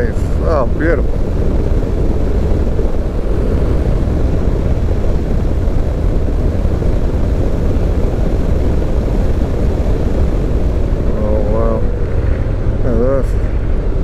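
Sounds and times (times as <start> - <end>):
vehicle driving along road: 0.0 - 14.0.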